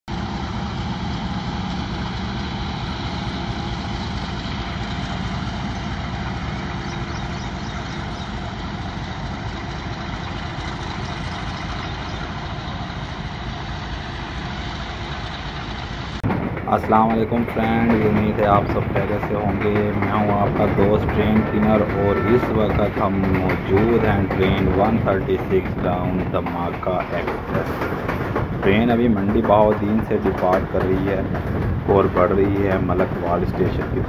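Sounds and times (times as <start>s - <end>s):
diesel locomotive engine droning: 0.1s - 34.0s.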